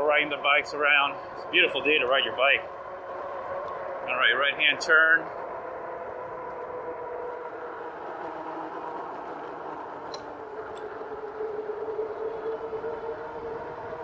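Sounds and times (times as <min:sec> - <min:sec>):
electric hub motor whine: 0:00.0 - 0:14.0.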